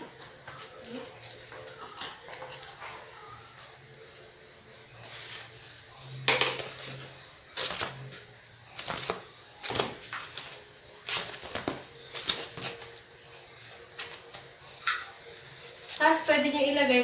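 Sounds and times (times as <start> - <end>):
rustling: 0.0 - 16.4.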